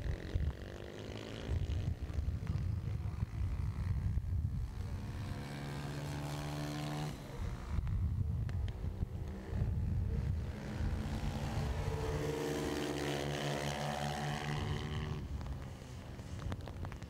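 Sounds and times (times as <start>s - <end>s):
motorbike engine running hard: 0.0s - 17.0s.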